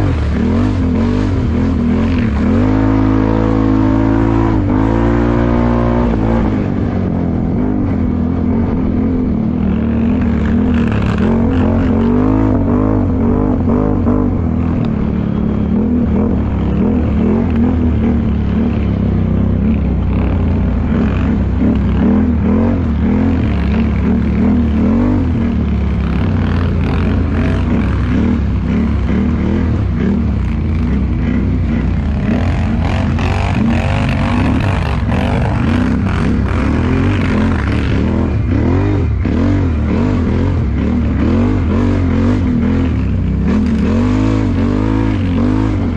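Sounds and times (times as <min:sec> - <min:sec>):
atv engine revving: 0:00.0 - 0:45.9.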